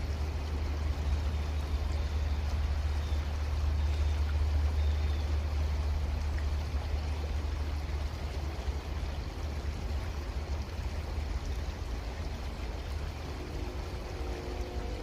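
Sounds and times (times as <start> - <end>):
creek water flowing: 0.0 - 15.0
faint steady hum: 0.0 - 15.0.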